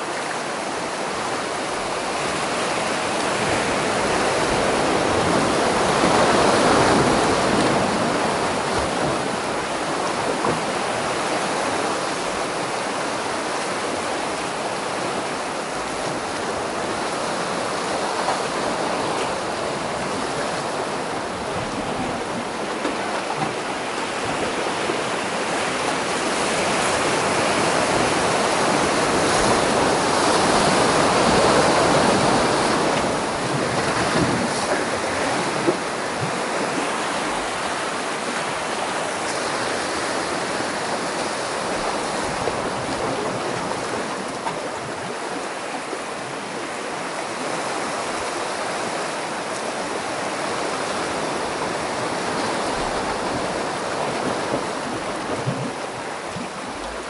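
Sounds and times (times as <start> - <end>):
sea surf washing over rocks: 0.0 - 57.0.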